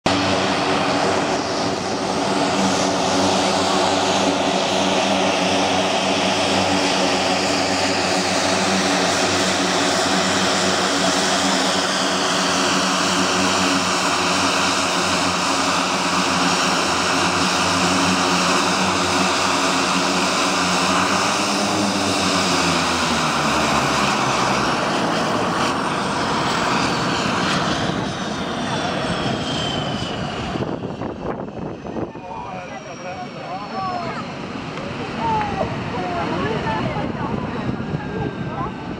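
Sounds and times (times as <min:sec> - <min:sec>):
propeller drone: 0:00.0 - 0:38.9
turbine whine: 0:00.1 - 0:38.9.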